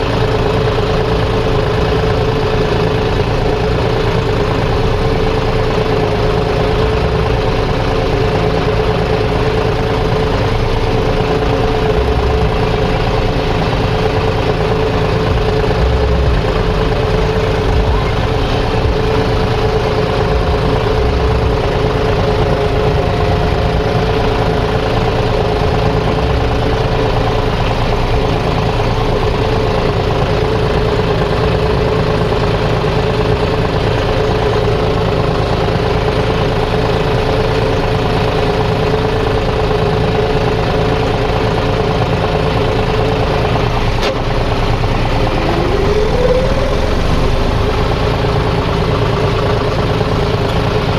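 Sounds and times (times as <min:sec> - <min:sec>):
engine running steadily: 0:00.0 - 0:50.9.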